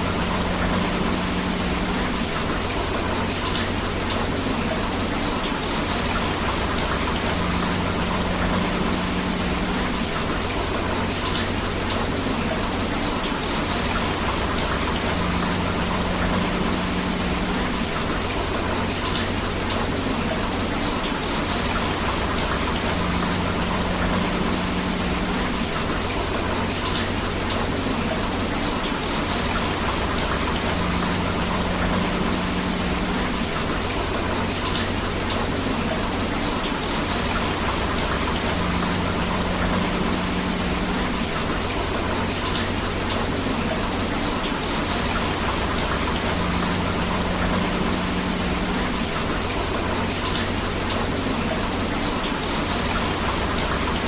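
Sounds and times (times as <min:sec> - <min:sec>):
rushing river water: 0:00.0 - 0:54.0
steady rain falling: 0:00.0 - 0:54.0.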